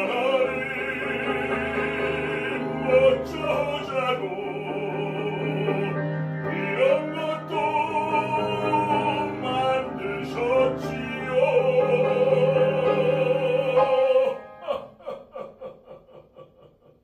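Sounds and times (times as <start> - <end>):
bass voice singing operatically: 0.0 - 16.1
grand piano accompaniment: 0.0 - 16.8.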